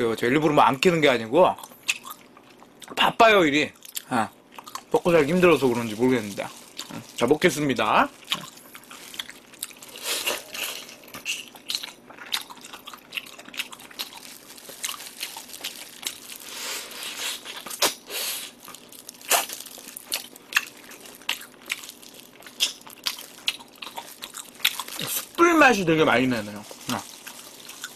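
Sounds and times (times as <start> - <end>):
close chewing of meat: 3.9 - 27.9.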